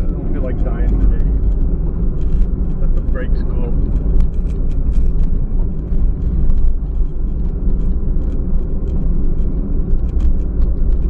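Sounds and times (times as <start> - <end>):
car driving heard from cabin: 0.0 - 11.0
light ticks and rattles: 0.0 - 11.0.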